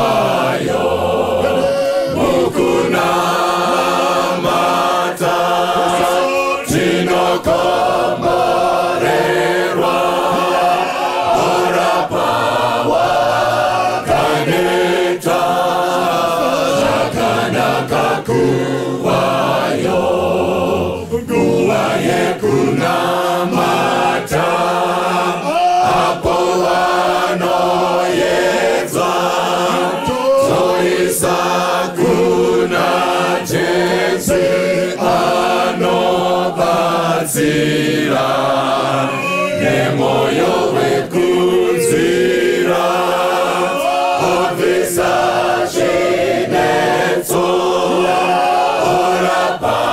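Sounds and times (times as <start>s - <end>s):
choir singing a cappella: 0.0s - 49.9s.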